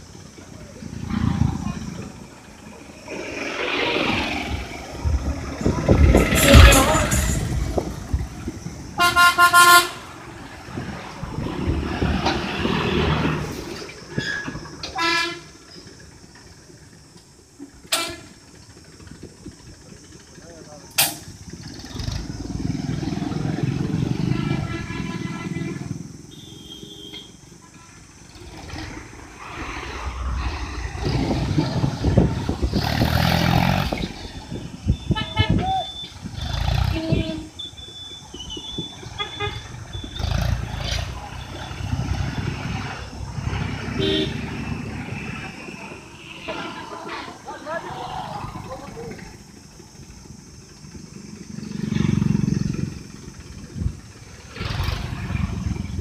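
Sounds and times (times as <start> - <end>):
cars passing close by: 0.0 - 56.0
tractor diesel engine driving by: 0.0 - 56.0.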